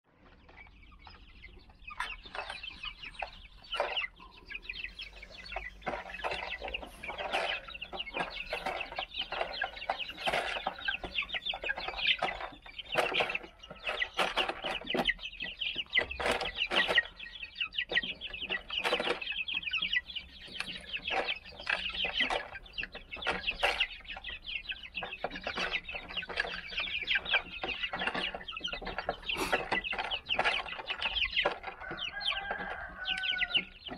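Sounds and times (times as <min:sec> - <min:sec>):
chicks calling: 0:00.1 - 0:33.9.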